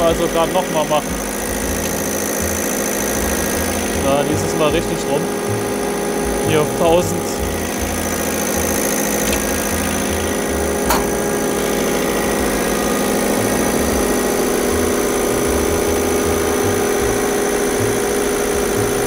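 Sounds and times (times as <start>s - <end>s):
test bench machine running: 0.0s - 19.0s.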